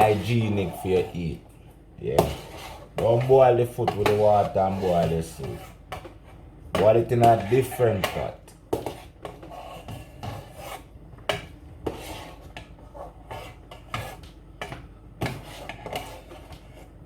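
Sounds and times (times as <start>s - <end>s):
pots scraping and rubbing: 0.0s - 1.4s, 2.0s - 10.9s, 11.8s - 17.0s.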